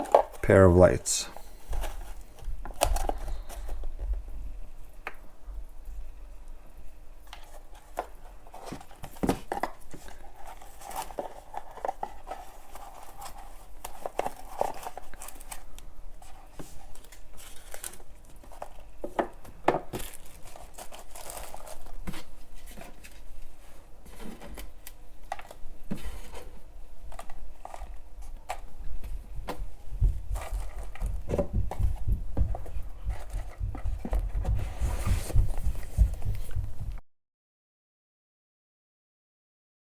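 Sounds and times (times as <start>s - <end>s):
plastic and cardboard crinkling: 0.0s - 0.4s, 1.4s - 4.3s, 7.3s - 37.0s.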